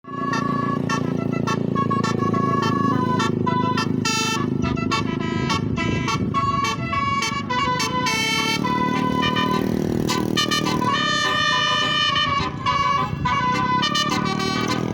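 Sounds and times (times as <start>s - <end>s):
bus engine rumble: 0.0s - 14.9s
multi-tone air horn tune: 0.0s - 14.9s.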